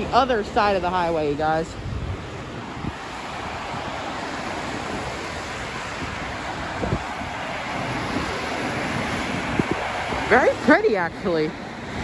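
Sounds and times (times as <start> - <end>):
highway traffic rushing: 0.0 - 12.0
wind on microphone: 0.0 - 12.0.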